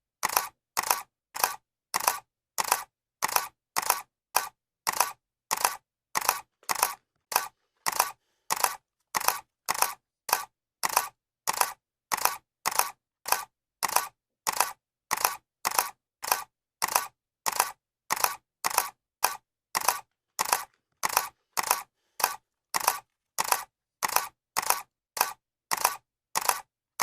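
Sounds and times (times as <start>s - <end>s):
camera shutter clicking: 0.2s - 26.7s.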